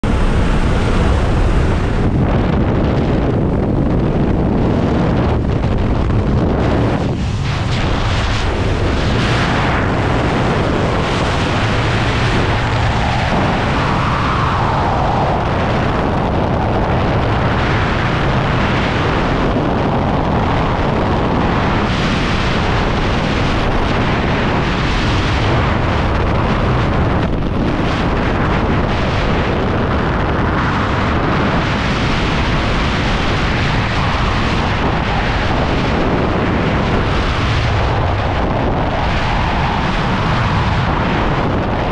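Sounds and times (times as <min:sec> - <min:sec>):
wind rush buffeting microphone: 0:00.0 - 0:41.9.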